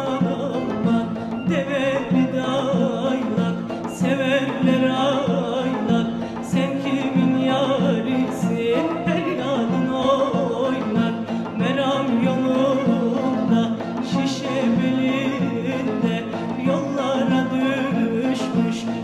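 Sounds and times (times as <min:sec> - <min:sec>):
folk music with vibrato melody: 0:00.0 - 0:19.0.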